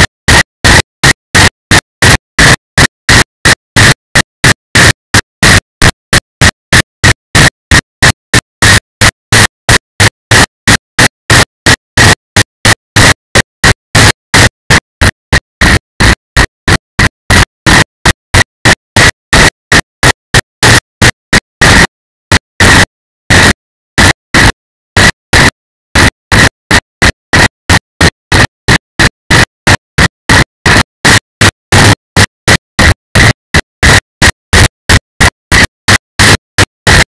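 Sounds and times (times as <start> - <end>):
loud distorted noise bursts: 0.0 - 21.9, 22.5 - 37.0.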